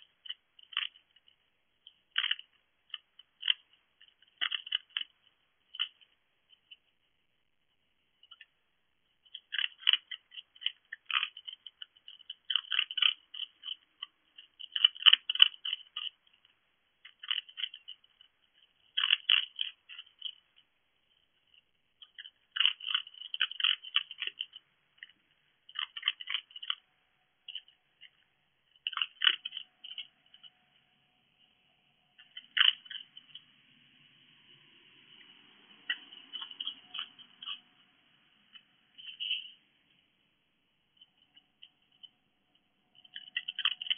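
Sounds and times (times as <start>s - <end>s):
fox crunching food: 0.0s - 6.9s, 8.2s - 31.0s, 32.1s - 33.5s, 35.1s - 39.2s, 41.0s - 43.9s.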